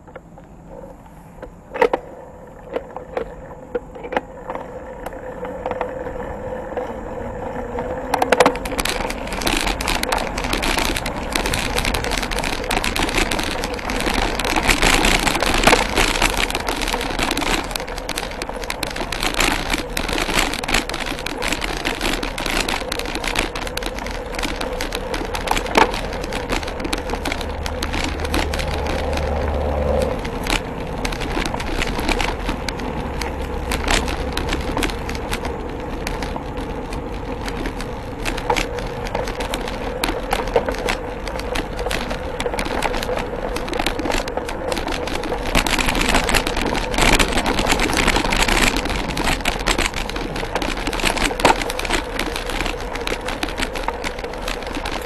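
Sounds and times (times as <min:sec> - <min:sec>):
bike rattling over bumps: 0:00.0 - 0:55.0
bike tyres crunching on gravel: 0:00.0 - 0:55.0.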